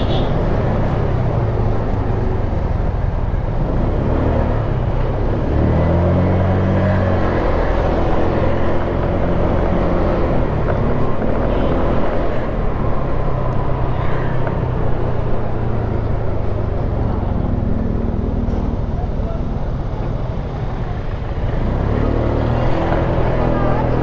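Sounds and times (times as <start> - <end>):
road and wind rumble: 0.0 - 24.0.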